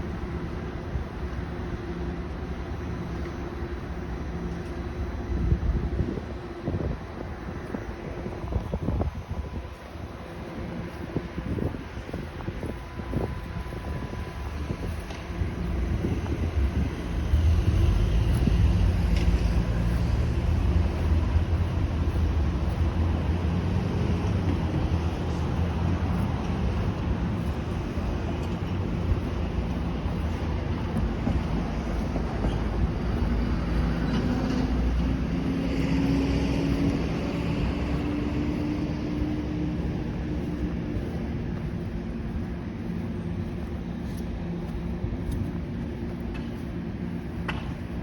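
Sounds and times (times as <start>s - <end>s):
subway train rumbling: 0.0s - 48.0s
wind on microphone: 4.8s - 48.0s.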